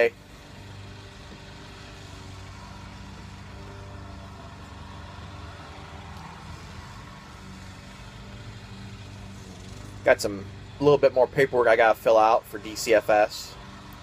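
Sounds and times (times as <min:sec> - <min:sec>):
low mechanical motor hum: 0:00.0 - 0:14.0.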